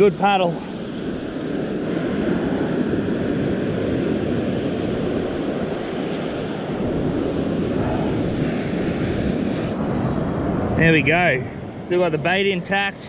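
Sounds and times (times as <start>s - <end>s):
surf washing: 0.0s - 13.0s
wind on microphone: 0.0s - 13.0s.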